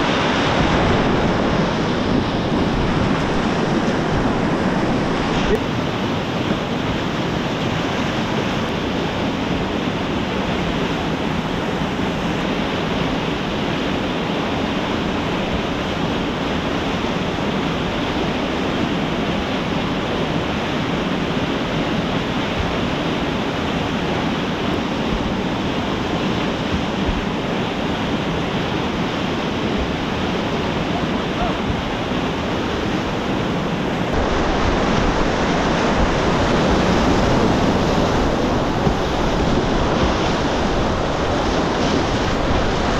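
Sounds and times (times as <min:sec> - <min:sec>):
water rushing over a weir: 0:00.0 - 0:42.9.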